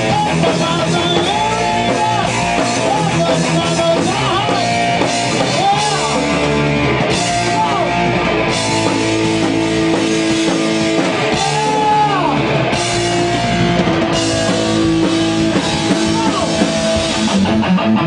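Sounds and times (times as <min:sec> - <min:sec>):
drums and cymbals: 0:00.0 - 0:17.7
distorted electric guitar: 0:00.0 - 0:18.0.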